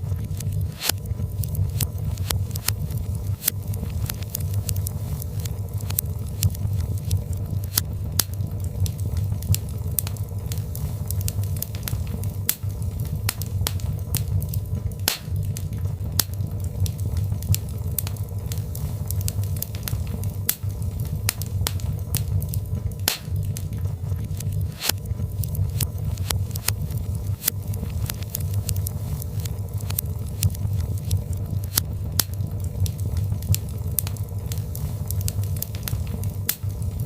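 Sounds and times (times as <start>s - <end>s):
logs crackling and popping: 0.0s - 37.0s
low rumble of flames: 0.0s - 37.0s.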